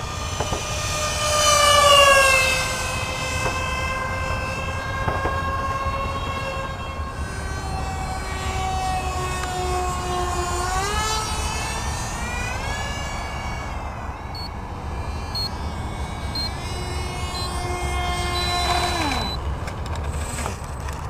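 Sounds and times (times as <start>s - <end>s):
electric ducted fans whining: 0.0s - 21.0s.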